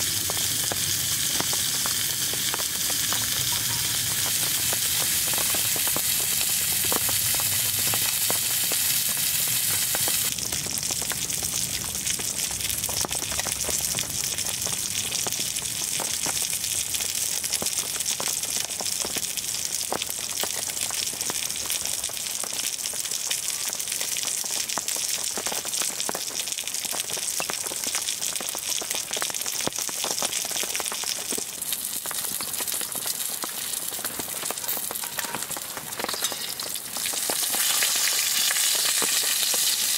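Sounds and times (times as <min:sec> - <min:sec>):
food sizzling in a skillet: 0:00.0 - 0:39.9.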